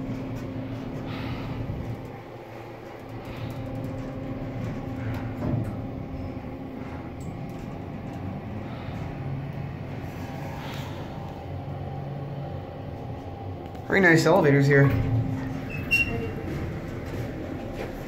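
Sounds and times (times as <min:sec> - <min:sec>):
elevator mechanical hum: 0:00.0 - 0:18.0.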